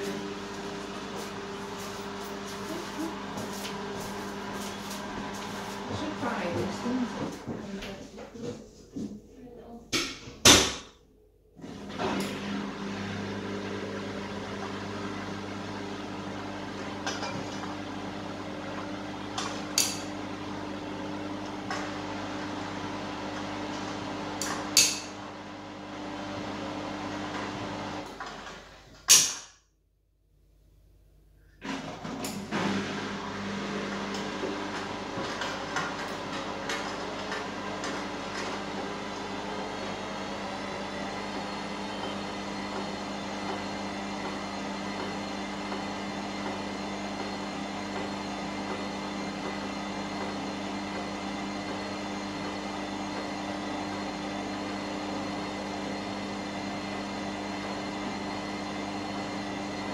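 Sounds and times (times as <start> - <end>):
washing machine electric hum: 0.0 - 29.4, 30.3 - 59.9.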